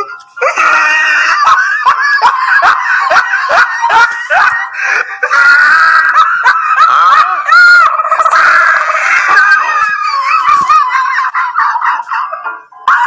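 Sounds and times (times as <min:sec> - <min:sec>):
cartoon-like screaming squeals: 0:00.4 - 0:04.6, 0:05.2 - 0:12.3.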